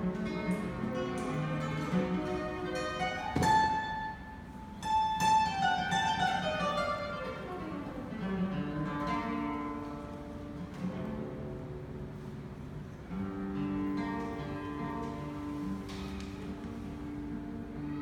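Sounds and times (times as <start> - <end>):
classical guitar playing: 0.0 - 18.0.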